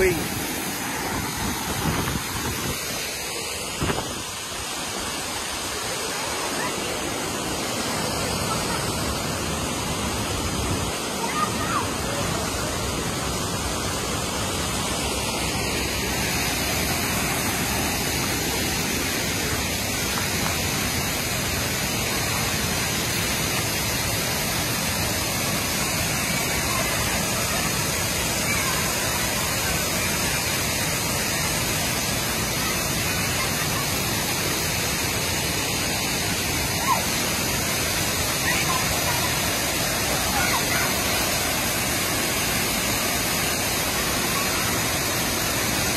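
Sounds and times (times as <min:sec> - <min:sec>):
water rushing over rapids: 0:00.0 - 0:45.9
waterfall pouring: 0:00.0 - 0:45.9.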